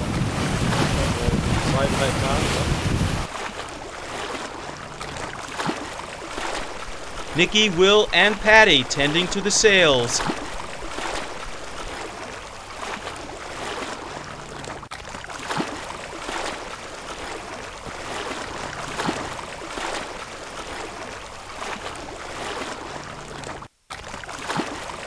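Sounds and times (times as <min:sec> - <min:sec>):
water rushing along a hull: 0:00.0 - 0:25.0.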